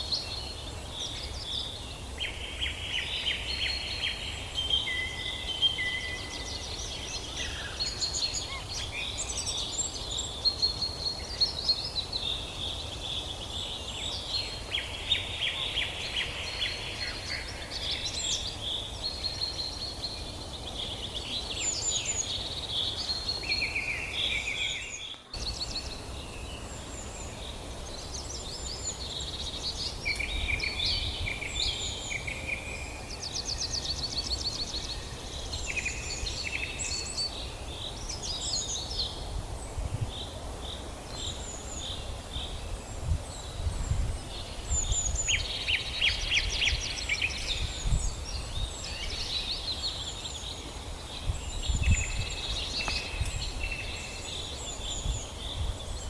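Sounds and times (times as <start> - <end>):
songbirds singing and calling: 0.0 - 56.0.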